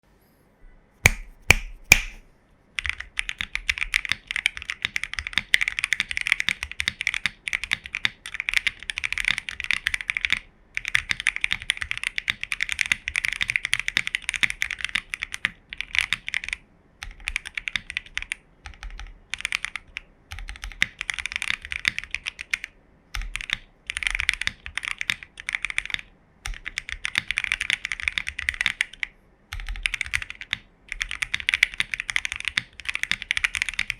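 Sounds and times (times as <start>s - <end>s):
fast typing on mechanical keyboard: 2.8s - 33.9s.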